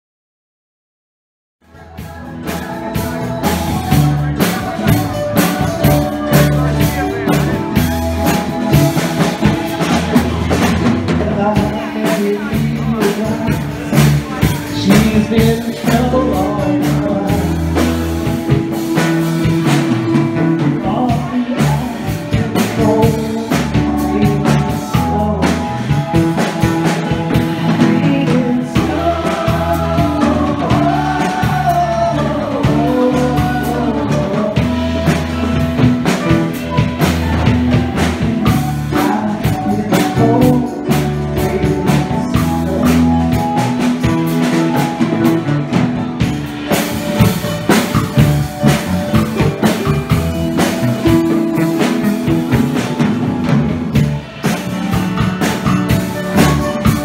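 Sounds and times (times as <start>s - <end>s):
sung vocals: 1.6s - 53.2s
live rock band playing: 1.6s - 57.0s.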